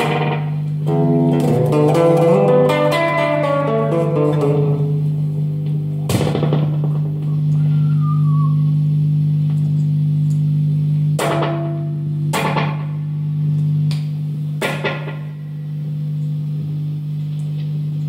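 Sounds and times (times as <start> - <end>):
electric guitar low note: 0.0 - 18.0.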